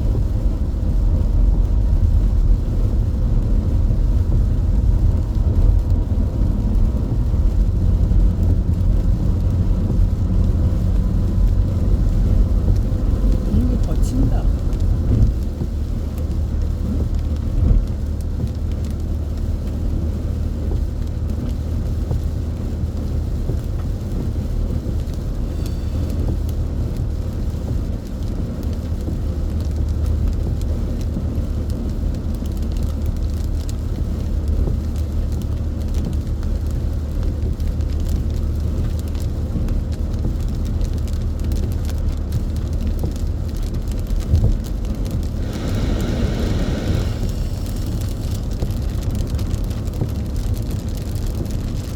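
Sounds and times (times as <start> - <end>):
engine and tyres rumbling: 0.0 - 51.9
faint rain hiss: 0.0 - 51.9.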